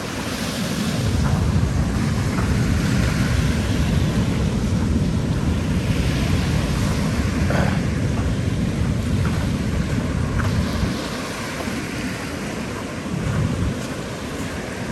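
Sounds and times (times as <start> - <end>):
ocean surf washing onto beach: 0.0 - 14.9
wind rumbling on microphone: 0.0 - 14.9.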